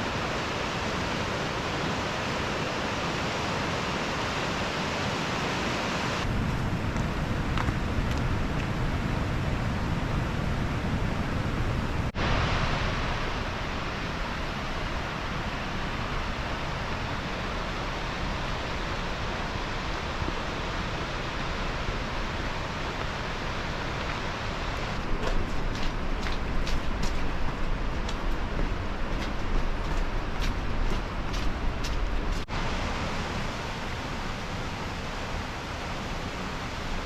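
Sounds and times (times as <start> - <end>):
water rushing: 0.0 - 37.0.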